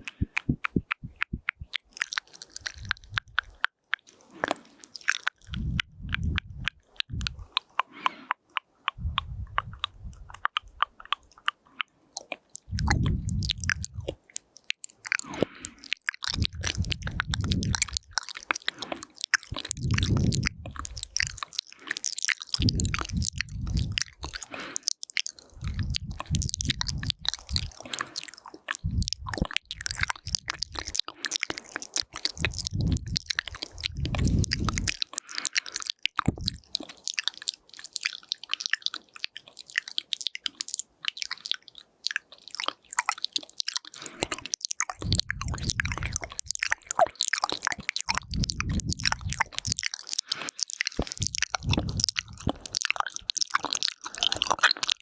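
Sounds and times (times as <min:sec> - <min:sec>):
tongue clicks and lip smacks: 0:00.0 - 0:55.0.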